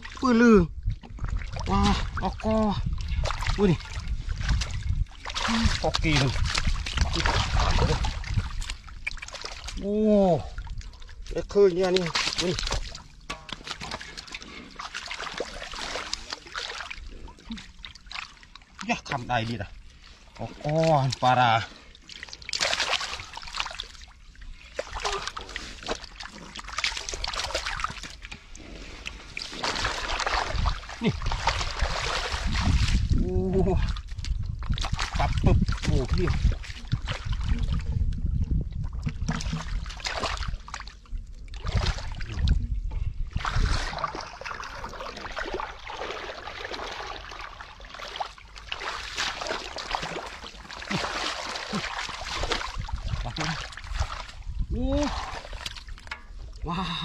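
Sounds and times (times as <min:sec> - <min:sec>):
hands sloshing through muddy water: 0:00.0 - 0:57.0.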